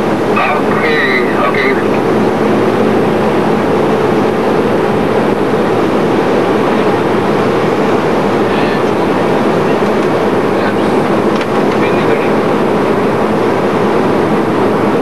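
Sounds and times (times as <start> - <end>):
airflow and engine noise: 0.0 - 15.0
constant low hum: 0.0 - 15.0.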